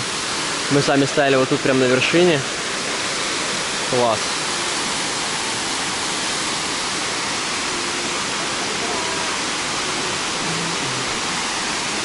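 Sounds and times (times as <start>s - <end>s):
waterfall hiss: 0.0s - 12.0s.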